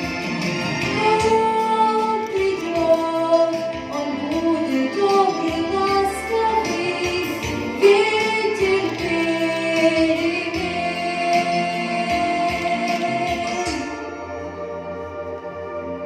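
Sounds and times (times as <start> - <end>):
backing track: 0.0 - 16.0.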